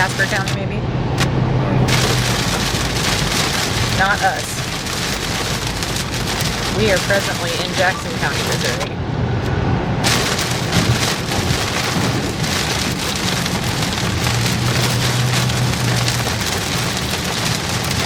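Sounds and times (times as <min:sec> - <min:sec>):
engine and road drone: 0:00.0 - 0:18.0
heavy rain on car roof: 0:00.0 - 0:18.0.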